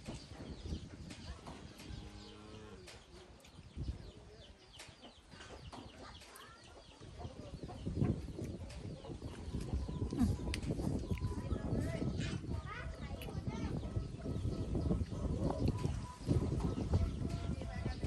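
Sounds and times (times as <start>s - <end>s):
small birds chirping: 0.0s - 18.0s
wind rumbling on microphone: 0.0s - 18.0s.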